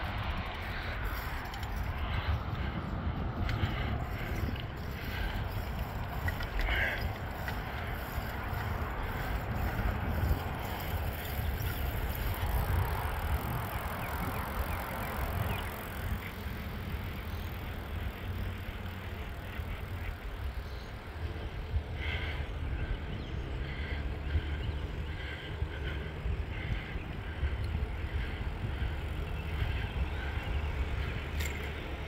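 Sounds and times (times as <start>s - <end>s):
wind on microphone: 0.0s - 18.2s, 19.7s - 32.0s
rolling noise on paved trail: 0.0s - 32.0s.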